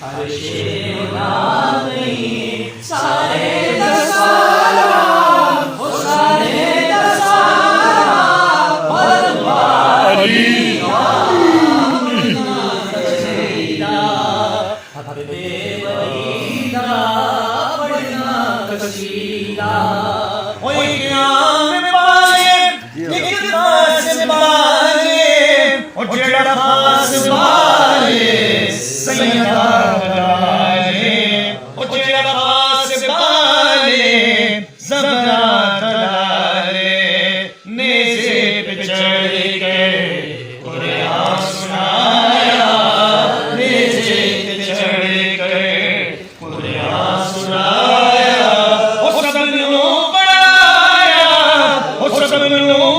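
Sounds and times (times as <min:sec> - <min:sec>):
voices chanting devotional melody: 0:00.0 - 0:52.9.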